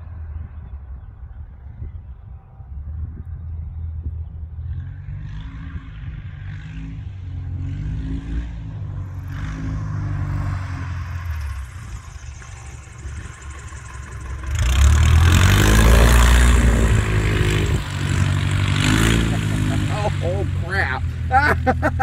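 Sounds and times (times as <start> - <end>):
model airplane motor and propeller: 3.1 - 21.3.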